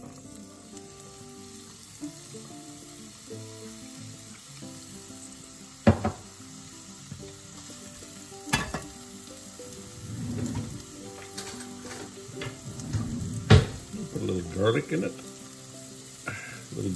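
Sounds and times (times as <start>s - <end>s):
onions sizzling in a frying pan: 0.0s - 16.9s.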